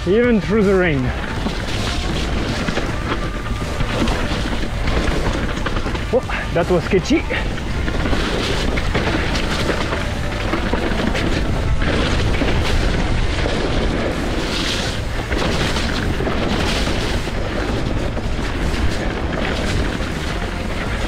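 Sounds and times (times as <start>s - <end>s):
bike rattling over dirt trail: 0.0s - 21.0s
tyre noise: 0.0s - 21.0s
wind buffeting microphone: 0.0s - 21.0s.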